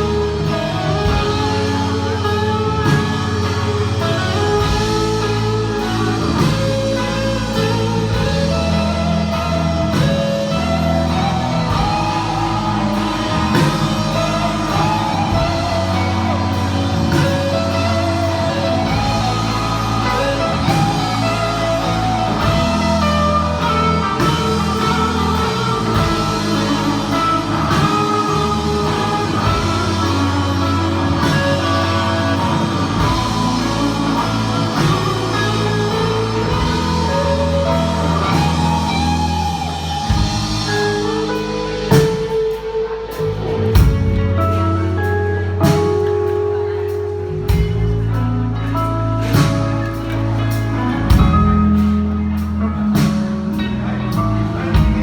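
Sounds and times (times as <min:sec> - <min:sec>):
band playing pop-rock song: 0:00.0 - 0:55.0.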